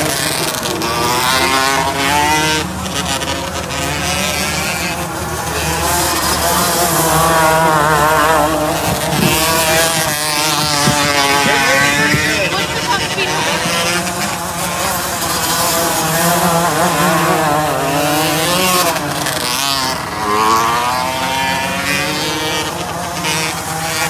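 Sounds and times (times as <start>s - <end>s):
kart engines racing: 0.0s - 24.0s.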